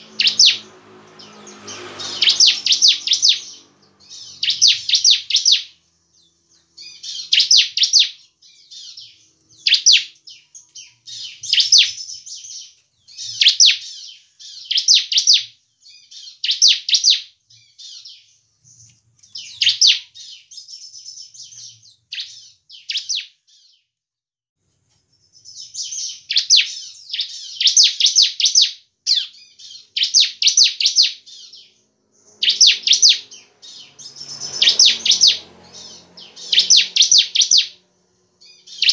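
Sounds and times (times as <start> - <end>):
bird singing high sharp notes: 0.0 - 23.7, 25.4 - 38.9.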